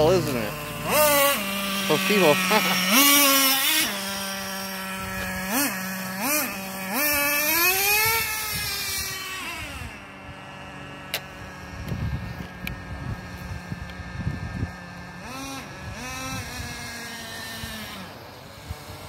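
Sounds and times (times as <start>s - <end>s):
rc truck engine revving: 0.0s - 19.0s.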